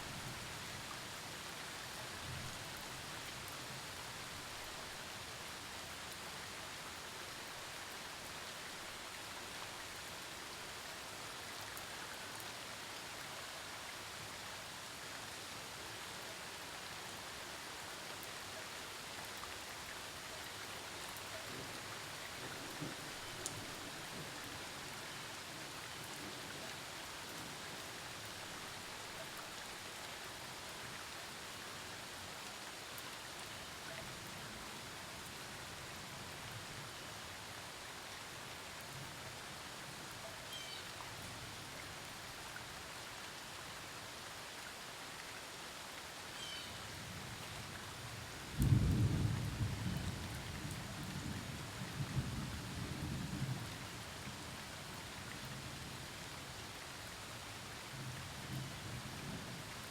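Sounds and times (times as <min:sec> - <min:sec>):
steady rainfall hiss: 0:00.0 - 0:59.9.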